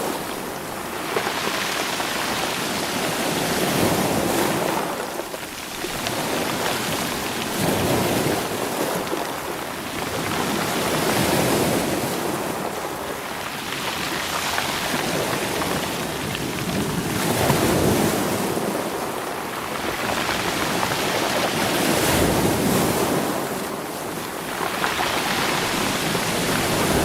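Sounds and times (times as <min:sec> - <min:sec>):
sea waves washing over rocks: 0:00.0 - 0:27.0.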